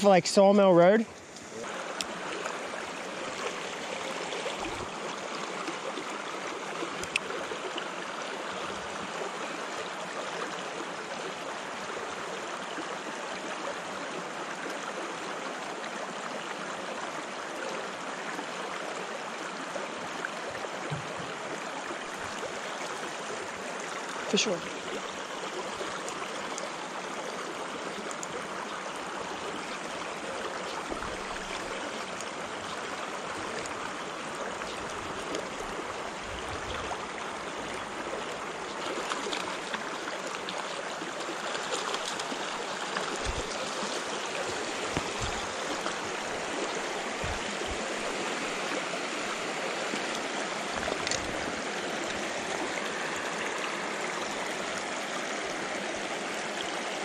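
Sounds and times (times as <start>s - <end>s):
water running over stones: 0.0s - 57.0s.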